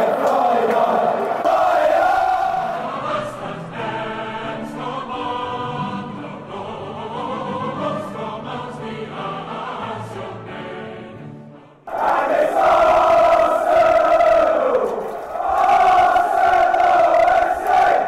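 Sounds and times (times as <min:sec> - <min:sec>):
choir singing held notes: 0:00.0 - 0:11.2, 0:11.9 - 0:18.0.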